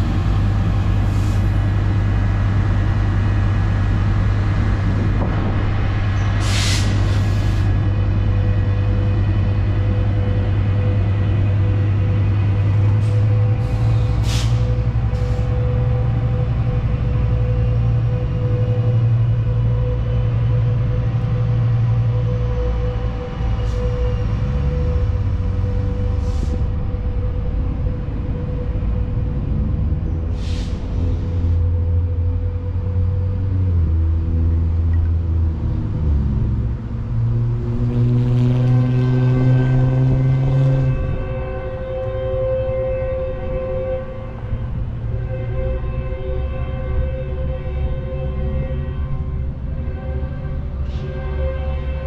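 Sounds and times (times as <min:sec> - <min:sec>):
ambient music low chords: 0:00.0 - 0:52.0.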